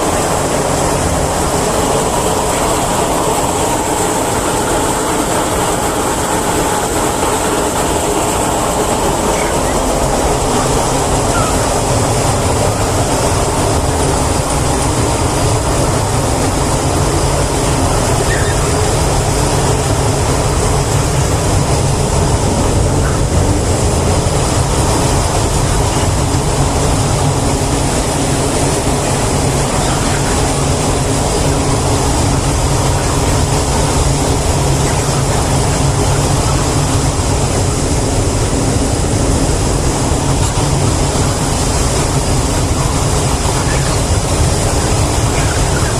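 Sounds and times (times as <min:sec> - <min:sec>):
mechanical drone with hiss: 0:00.0 - 0:45.9.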